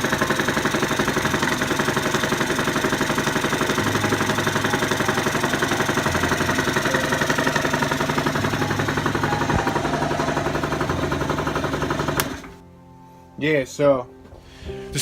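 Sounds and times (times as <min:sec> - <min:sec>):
scooter engine idling: 0:00.0 - 0:12.6.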